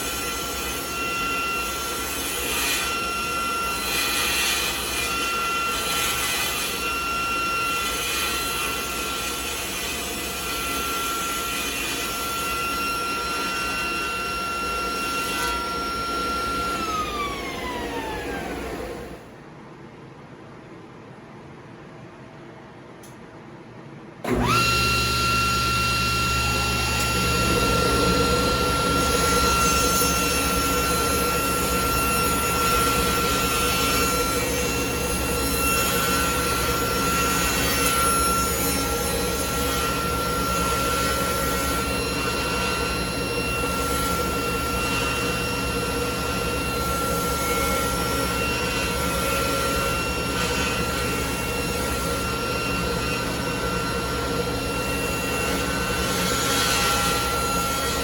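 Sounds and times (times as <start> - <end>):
table saw motor whine: 0.0 - 19.3, 24.2 - 58.0.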